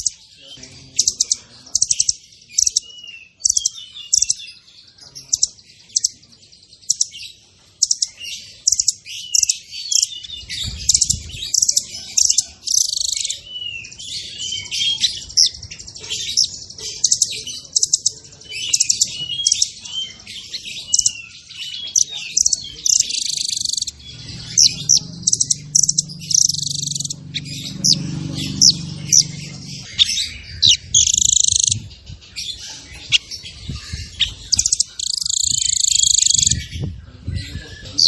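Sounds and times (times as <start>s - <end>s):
songbird singing fast song: 0.0s - 38.0s.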